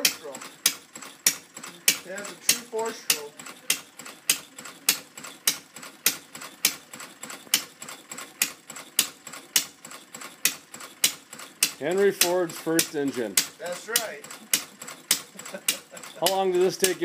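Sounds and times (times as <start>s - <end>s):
single-cylinder engine puttering: 0.0s - 17.0s.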